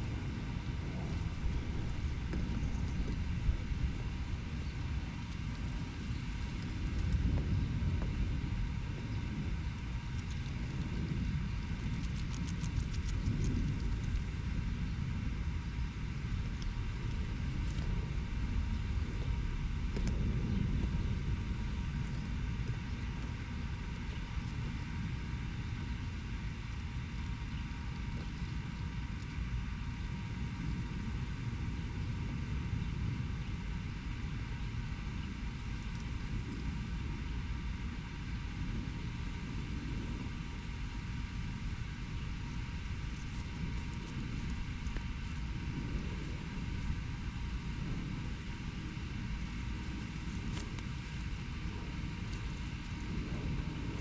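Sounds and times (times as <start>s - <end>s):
low rumble of road traffic: 0.0s - 54.0s.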